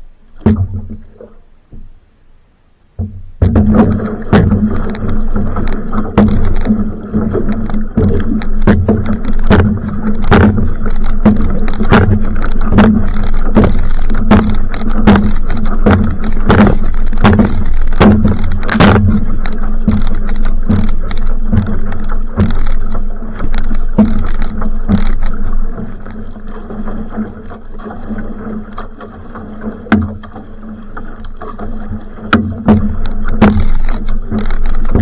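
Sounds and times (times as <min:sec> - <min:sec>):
paddle splashes and knocks: 0:00.0 - 0:02.0, 0:02.9 - 0:35.0
water rushing past hull: 0:00.0 - 0:35.0.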